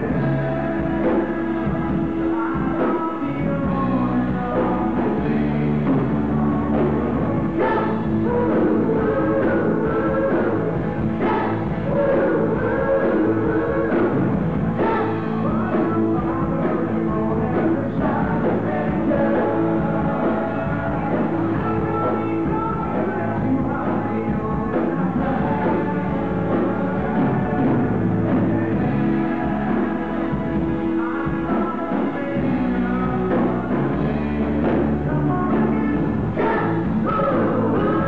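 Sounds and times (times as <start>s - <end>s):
drum kit: 0.0s - 38.0s
electric bass: 0.0s - 38.0s
electric guitars: 0.0s - 38.0s
person singing: 0.0s - 38.0s.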